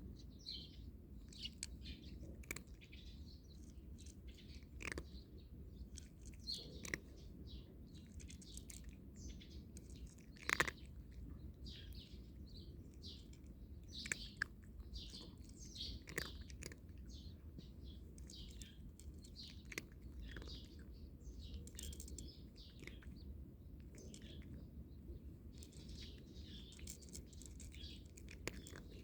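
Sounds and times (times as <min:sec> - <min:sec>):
small birds chirping: 0:00.0 - 0:29.0
cat crunching dry kibble: 0:00.8 - 0:29.0.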